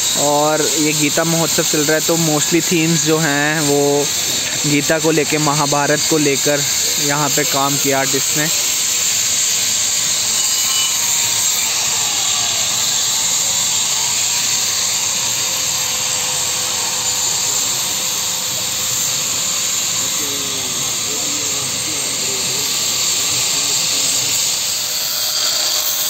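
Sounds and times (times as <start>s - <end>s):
power tools grinding stone: 0.0s - 26.0s.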